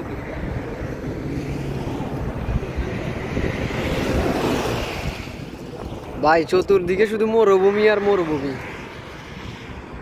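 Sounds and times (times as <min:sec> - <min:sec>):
low road vehicle rumble: 0:00.0 - 0:10.0
wind buffeting microphone: 0:00.0 - 0:10.0.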